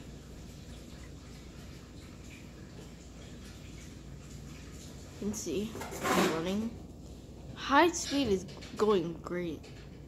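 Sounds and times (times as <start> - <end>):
ceiling fan humming: 0.0 - 10.0.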